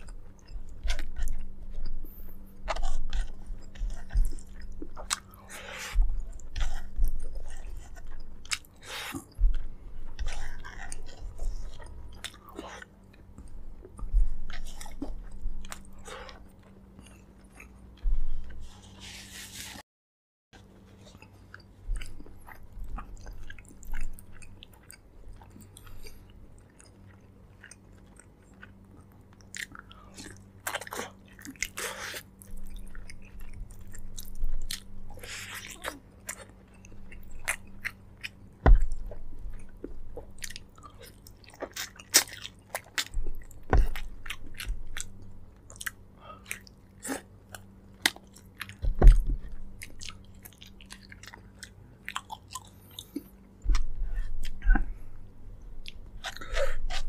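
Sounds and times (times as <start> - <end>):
wet chewing and smacking: 0.0 - 18.7, 20.6 - 57.0.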